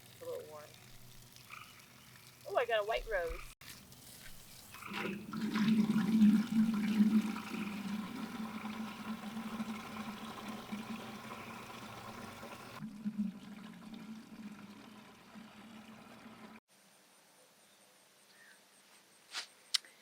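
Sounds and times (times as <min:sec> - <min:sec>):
water pouring into a container: 0:00.0 - 0:16.6.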